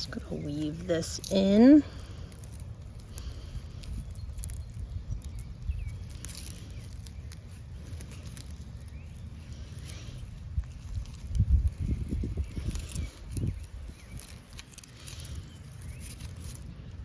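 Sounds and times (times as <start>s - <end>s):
hands rustling garden cover: 0.0s - 17.0s
wind rumble on microphone: 0.0s - 17.0s.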